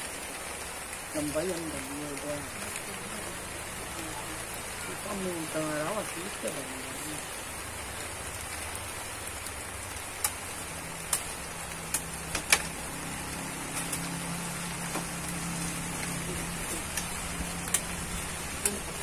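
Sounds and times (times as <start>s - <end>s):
drops ticking on leaves: 0.0s - 19.0s
light rain: 0.0s - 19.0s.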